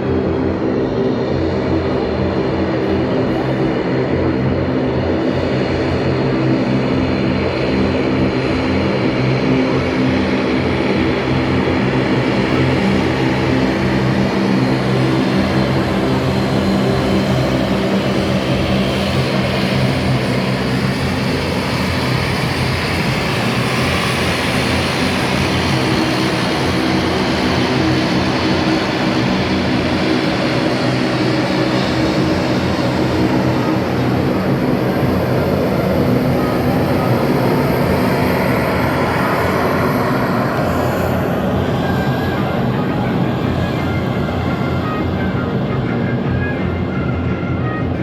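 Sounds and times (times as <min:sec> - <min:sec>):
propeller airplane engine droning: 0:00.0 - 0:48.0.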